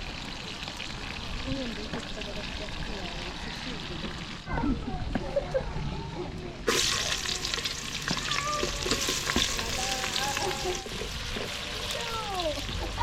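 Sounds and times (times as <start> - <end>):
food sizzling in a pot: 0.0 - 4.5, 6.6 - 13.0.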